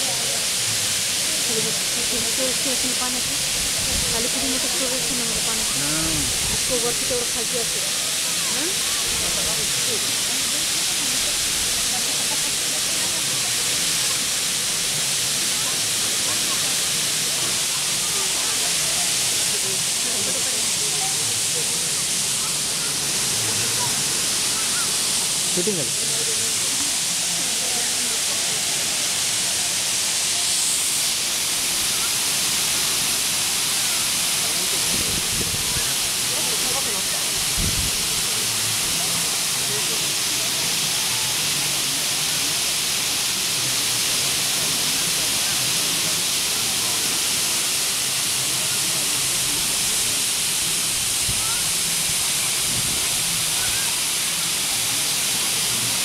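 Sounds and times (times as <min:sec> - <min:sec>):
water mist spraying hiss: 0:00.0 - 0:56.0.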